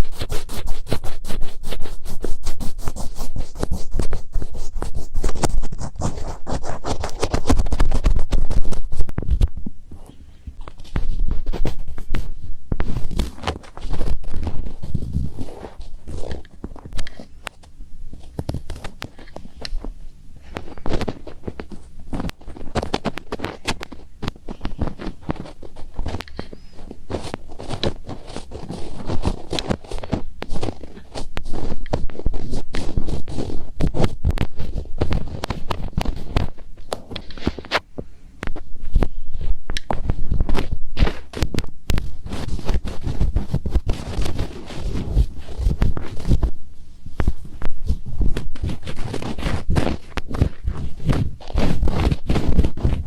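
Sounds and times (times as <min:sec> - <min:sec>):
fingertips scratching microphone: 0:00.0 - 0:53.0.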